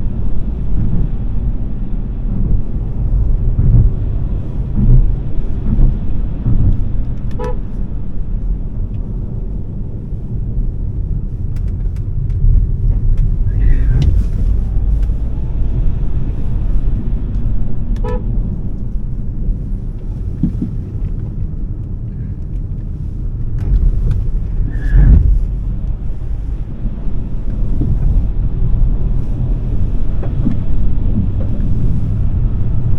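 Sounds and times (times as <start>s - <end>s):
road and wind rumble: 0.0s - 32.9s.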